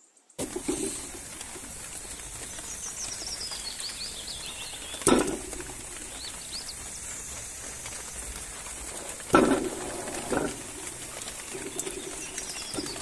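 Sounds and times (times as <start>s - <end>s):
small bird chirping: 0.0s - 13.0s
steady background hiss: 0.0s - 13.0s.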